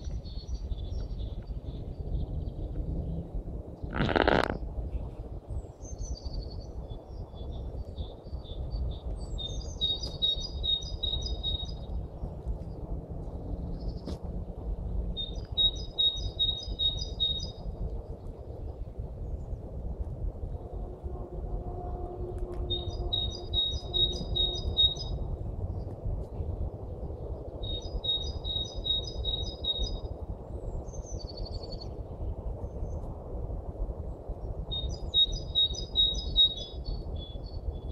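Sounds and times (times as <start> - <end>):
songbird singing: 0.0 - 4.6, 5.4 - 19.8, 20.4 - 26.0, 26.6 - 33.1, 34.0 - 37.9
steady low rumble: 0.0 - 37.9.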